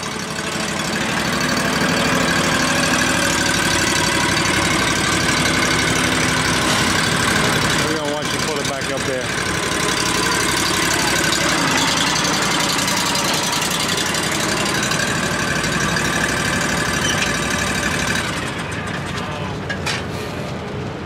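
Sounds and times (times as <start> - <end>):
mower engine running: 0.0 - 19.9.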